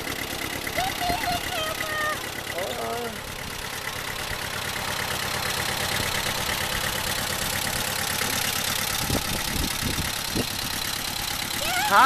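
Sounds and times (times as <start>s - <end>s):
ride-on tractor drone: 0.0s - 12.0s.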